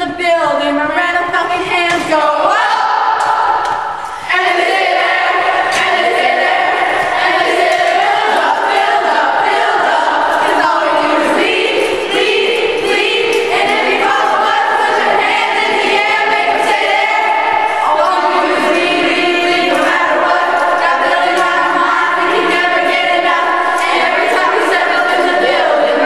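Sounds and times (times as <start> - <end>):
young voices singing together: 0.0 - 26.0.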